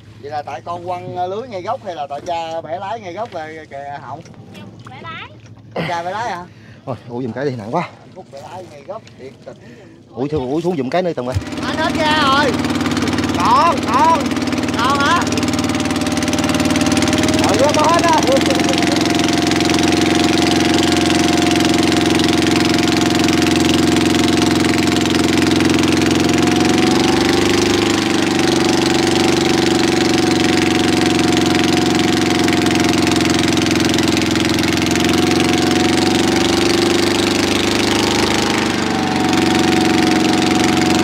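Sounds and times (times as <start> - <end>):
boat engine running: 0.0 - 41.0.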